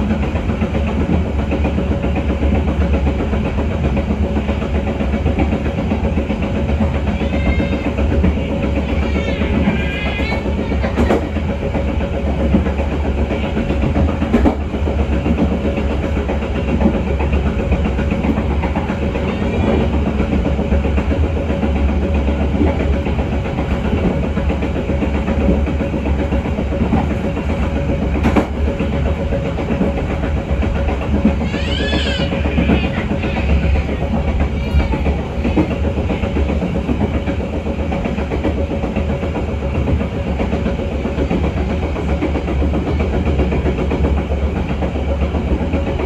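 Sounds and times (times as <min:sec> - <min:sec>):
train rumbling along track: 0:00.0 - 0:46.0
wheels clicking on rails: 0:00.0 - 0:46.0.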